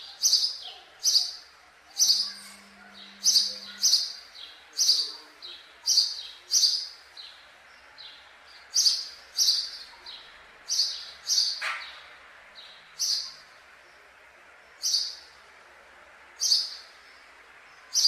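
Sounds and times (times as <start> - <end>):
songbird chirping: 0.0 - 15.6.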